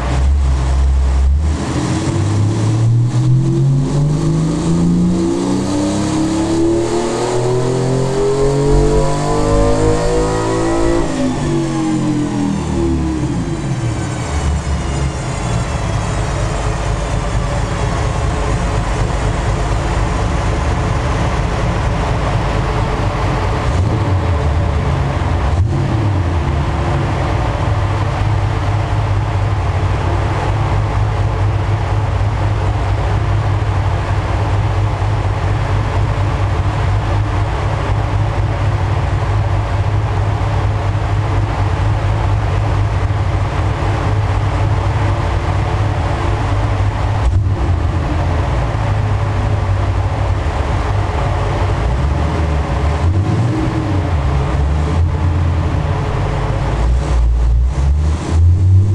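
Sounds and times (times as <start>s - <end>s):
car engine running on dyno: 0.0s - 58.9s.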